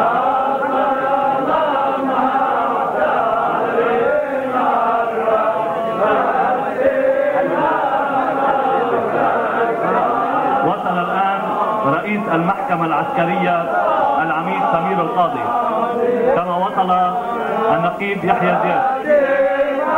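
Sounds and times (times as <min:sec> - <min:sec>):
men chanting together: 0:00.0 - 0:19.9.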